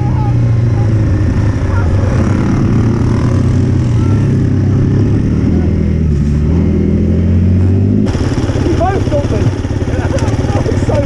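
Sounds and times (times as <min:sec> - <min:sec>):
dirt bike engine running: 0:00.0 - 0:11.0
tyres on sandy track: 0:00.0 - 0:11.0.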